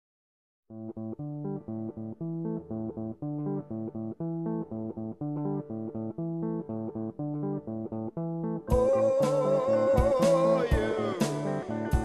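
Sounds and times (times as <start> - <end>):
plucked guitar over bass: 0.7 - 12.0.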